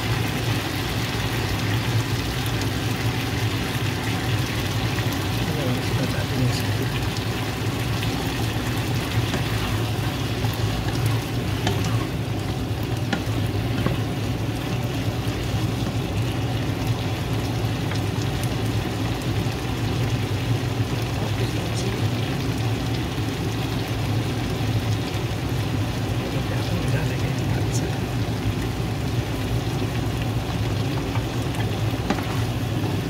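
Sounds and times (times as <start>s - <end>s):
stew sizzling in a frying pan: 0.0s - 33.0s.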